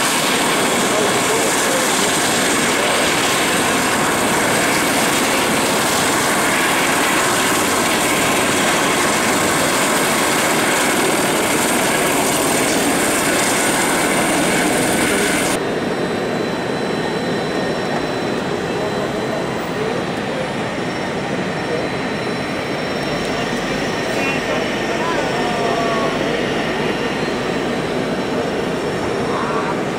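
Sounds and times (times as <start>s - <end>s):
jet engines running: 0.0s - 29.9s.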